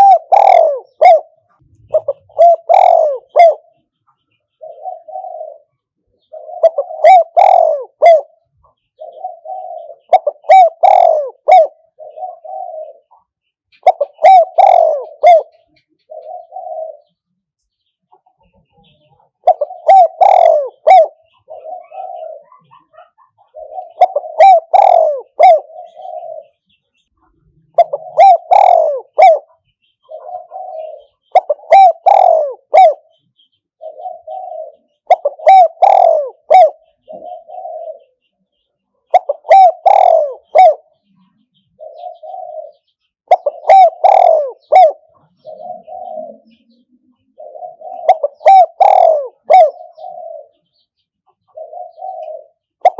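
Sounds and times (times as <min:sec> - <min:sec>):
dove cooing: 0:00.0 - 0:17.3, 0:18.1 - 0:52.9.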